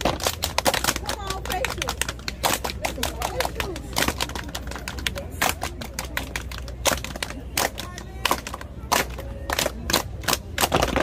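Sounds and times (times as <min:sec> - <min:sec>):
hand claps: 0:00.0 - 0:11.0.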